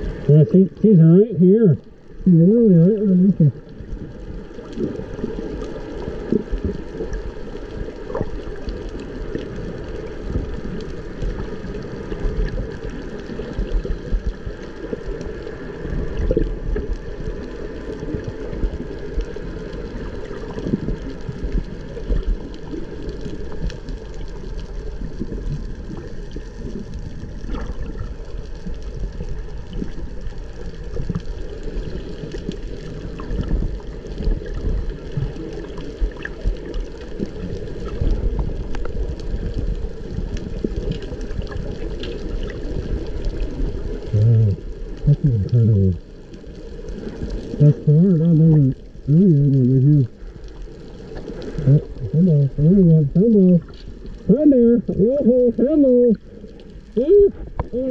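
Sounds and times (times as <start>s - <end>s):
underwater gurgling water: 0.0s - 57.9s.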